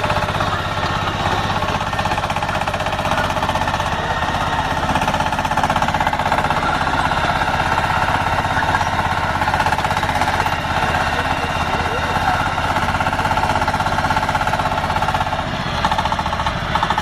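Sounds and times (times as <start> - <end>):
drilling rig hammering rattle: 0.0 - 17.0.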